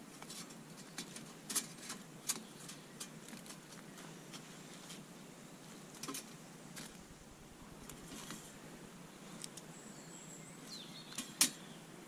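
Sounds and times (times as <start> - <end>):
faint woodland background: 0.0 - 12.0.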